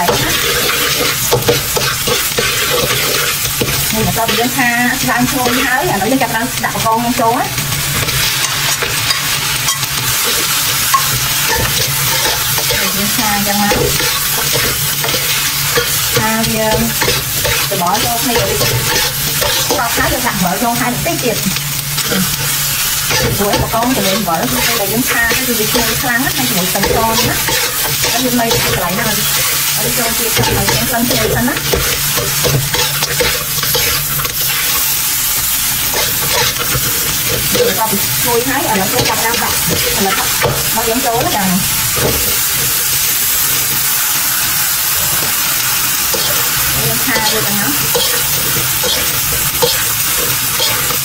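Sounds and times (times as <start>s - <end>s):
spatula scraping a wok: 0.0s - 6.3s, 7.8s - 20.9s, 21.9s - 43.0s, 45.0s - 51.0s
prawns sizzling in oil: 0.0s - 51.0s.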